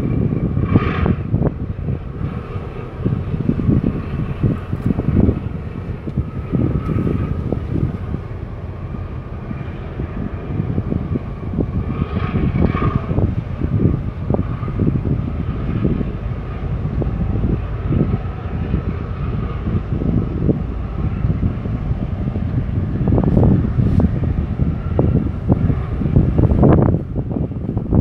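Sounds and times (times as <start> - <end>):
low engine rumble: 0.0 - 28.0
steady machinery hum: 0.0 - 28.0
wind buffeting microphone: 0.0 - 28.0.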